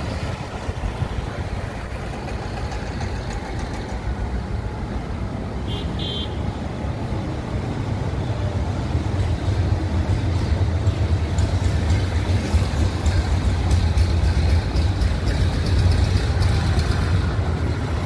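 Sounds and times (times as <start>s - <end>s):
highway traffic: 0.0s - 18.0s
truck and bus engine rumble: 0.0s - 18.0s.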